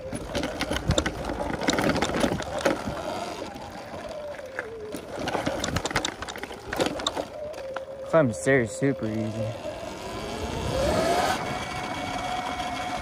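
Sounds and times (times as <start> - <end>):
electric dirt bike rattling: 0.0 - 13.0
electric motor whine: 0.0 - 13.0.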